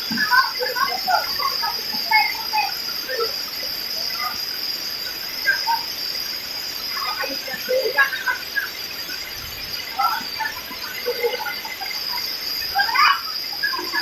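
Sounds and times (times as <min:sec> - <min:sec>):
insect chorus drone: 0:00.0 - 0:14.0
short insect calls: 0:00.0 - 0:14.0.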